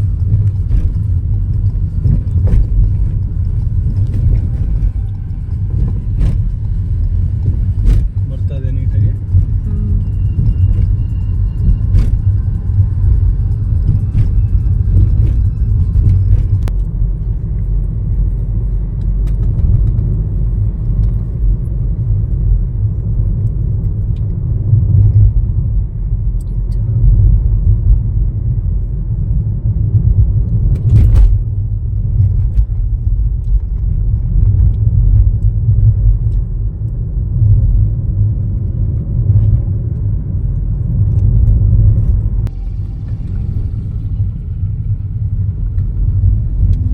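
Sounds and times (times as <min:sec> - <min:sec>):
car road and engine rumble: 0:00.0 - 0:46.9.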